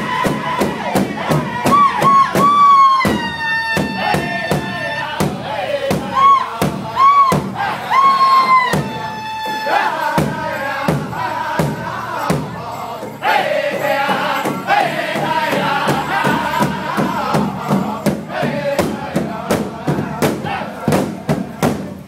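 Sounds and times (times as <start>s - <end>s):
large drum beating: 0.0s - 9.2s, 9.9s - 22.0s
men singing in chorus: 0.0s - 22.0s.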